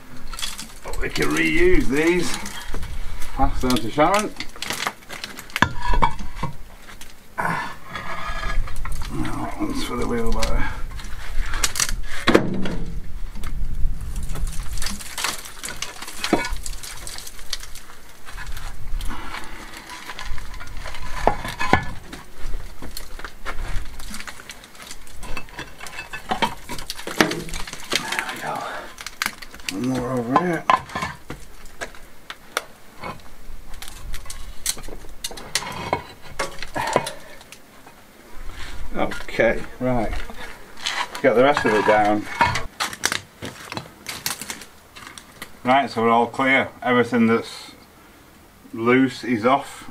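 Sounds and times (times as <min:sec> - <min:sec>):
clay roof tiles knocking and scraping: 0:00.0 - 0:38.0, 0:38.6 - 0:45.6.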